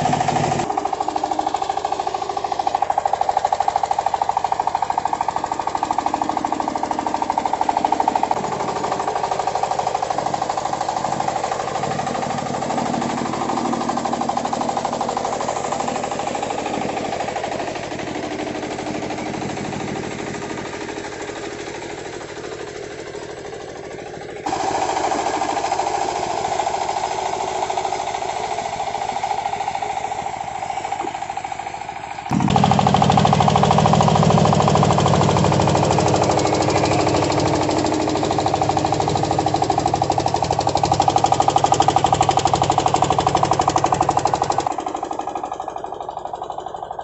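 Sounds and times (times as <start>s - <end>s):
diesel engine chugging: 0.0s - 47.0s.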